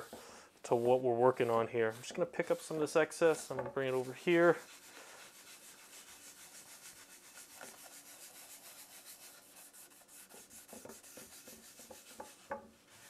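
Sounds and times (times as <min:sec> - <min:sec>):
pad rubbing on wood: 0:00.0 - 0:13.0.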